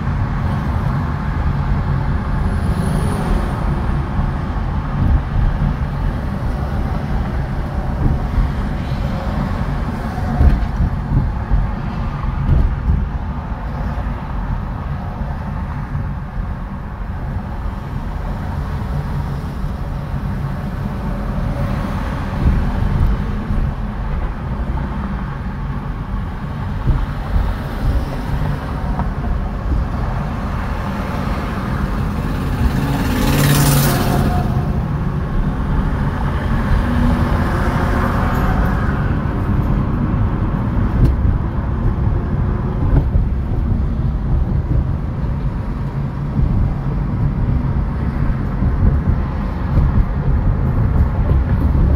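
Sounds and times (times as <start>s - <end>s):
road and engine rumble: 0.0s - 51.9s.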